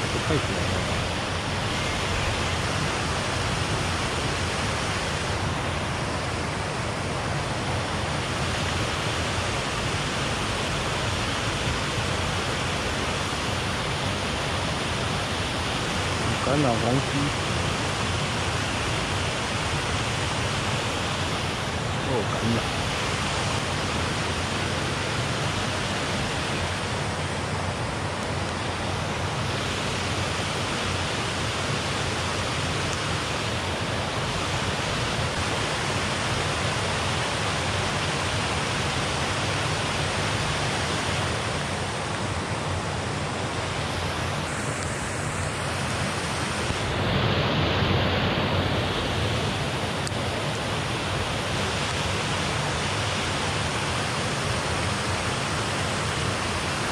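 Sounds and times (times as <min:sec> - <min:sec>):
water rushing over a weir: 0:00.0 - 0:56.9.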